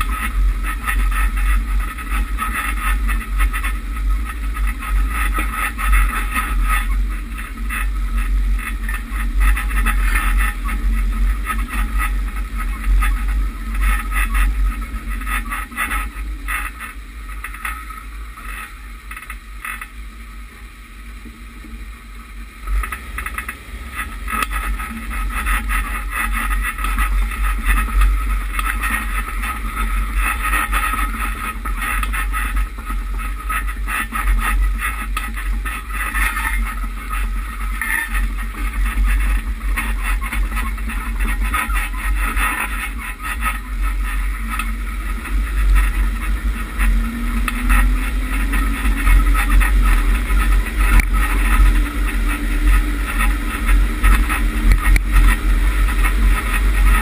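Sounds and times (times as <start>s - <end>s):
engine and tyre rumble: 0.0s - 57.0s.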